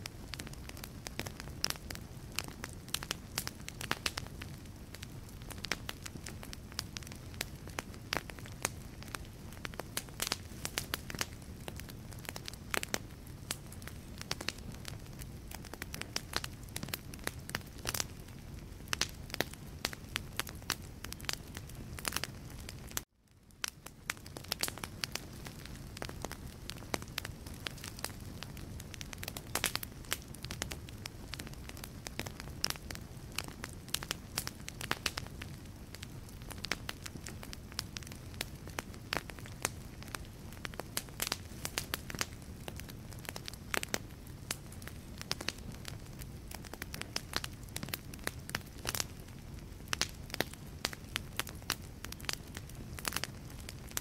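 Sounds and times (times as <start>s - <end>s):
wood fire crackling: 0.0s - 54.0s
flames rushing: 0.2s - 23.0s, 24.1s - 54.0s.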